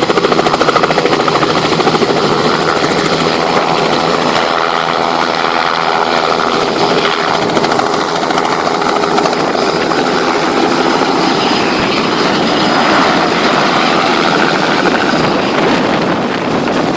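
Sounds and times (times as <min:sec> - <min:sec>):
helicopter engine and rotor: 0:00.0 - 0:16.9.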